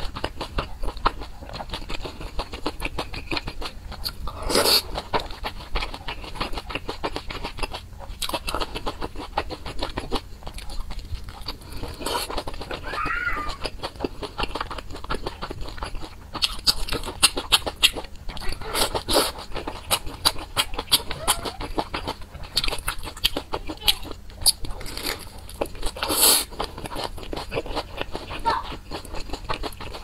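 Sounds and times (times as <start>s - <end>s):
chewing with wet mouth clicks: 0.0s - 30.0s.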